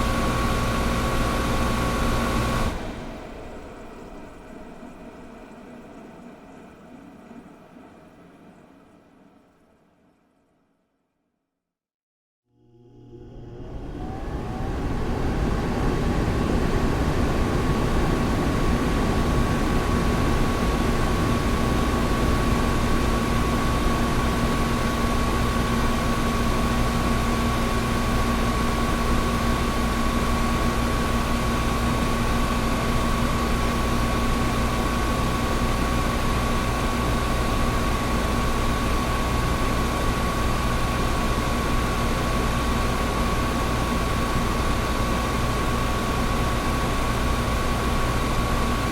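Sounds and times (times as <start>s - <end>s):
air conditioner running: 0.0s - 6.2s, 12.6s - 48.9s.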